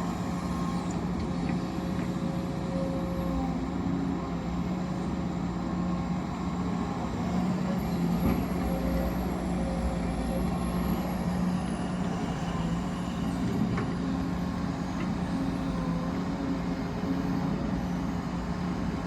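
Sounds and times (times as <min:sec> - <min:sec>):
heavy machinery engine humming: 0:00.0 - 0:19.0.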